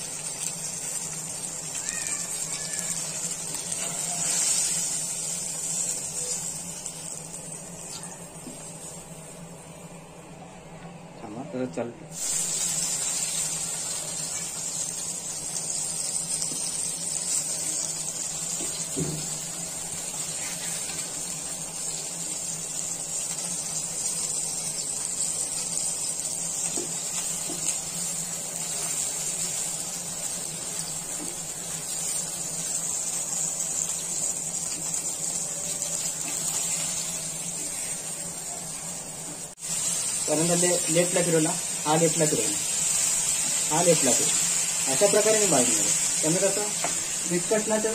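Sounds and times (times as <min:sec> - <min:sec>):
fish sizzling in hot oil: 0:00.0 - 0:09.6, 0:12.1 - 0:47.9.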